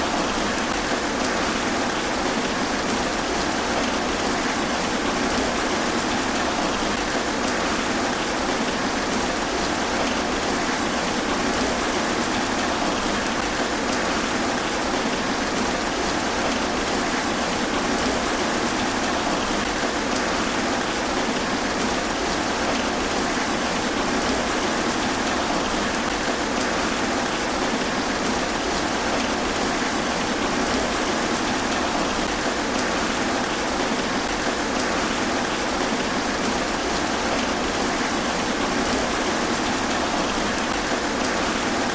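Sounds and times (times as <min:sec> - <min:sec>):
rain falling on trees: 0:00.0 - 0:41.9.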